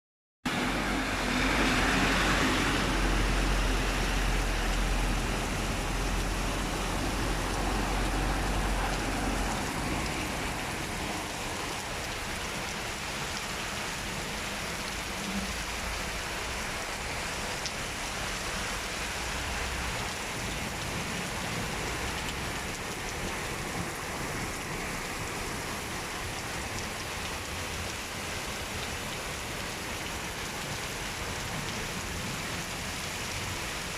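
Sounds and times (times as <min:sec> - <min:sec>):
heavy rain falling: 0:00.5 - 0:33.9.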